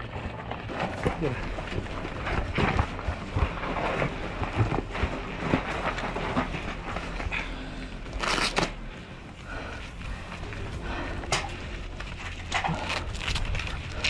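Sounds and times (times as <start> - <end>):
clothing rustling: 0.6 - 14.0.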